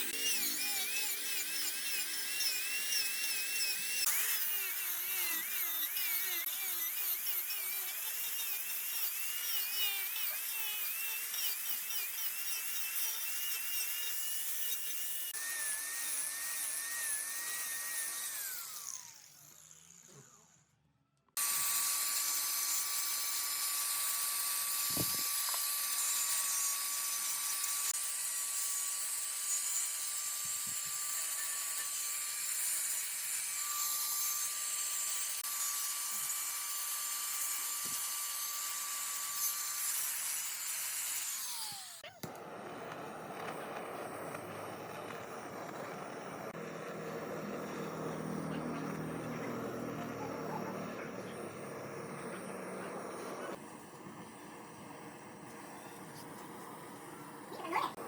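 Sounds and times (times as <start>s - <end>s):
wood lathe running: 0.0s - 20.6s, 21.4s - 58.0s
tool cutting spinning wood: 0.0s - 20.8s, 21.4s - 58.0s.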